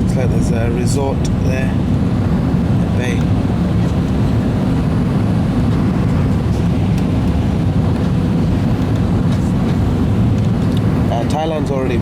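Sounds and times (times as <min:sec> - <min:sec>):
jet engine roar and rushing air: 0:00.0 - 0:12.0.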